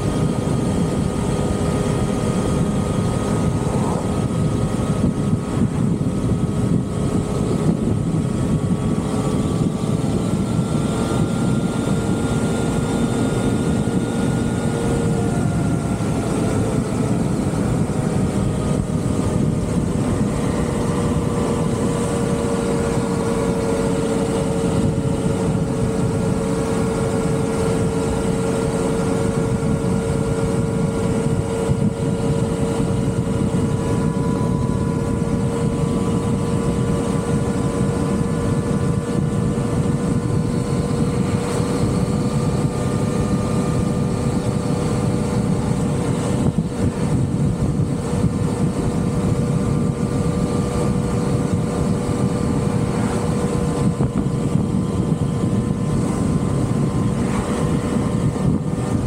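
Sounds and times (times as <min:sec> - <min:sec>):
low wind rumble: 0:00.0 - 0:59.0
vehicle engine running: 0:00.0 - 0:59.0.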